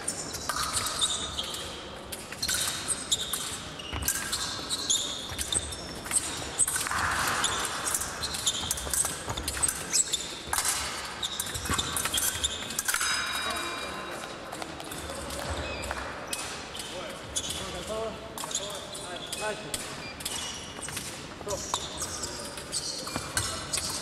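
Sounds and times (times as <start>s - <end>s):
shoes squeaking and stamping: 0.0s - 24.0s.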